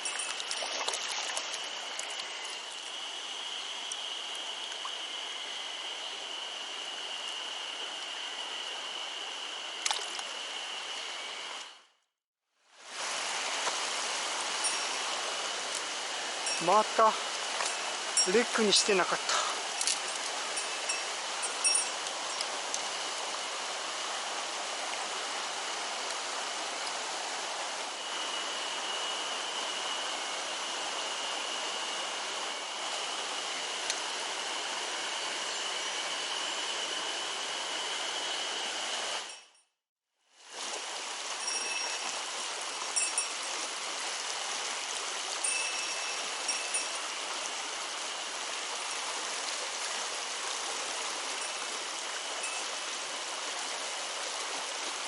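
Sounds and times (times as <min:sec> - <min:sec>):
mountain stream flowing: 0:00.0 - 0:11.8, 0:12.8 - 0:39.4, 0:40.4 - 0:55.0.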